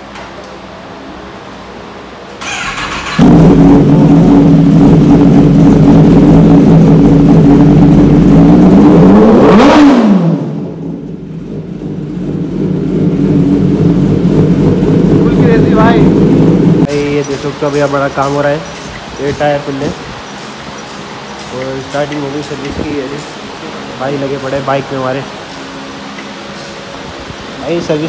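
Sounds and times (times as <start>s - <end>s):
motorcycle engine idling and revving: 1.0s - 28.0s.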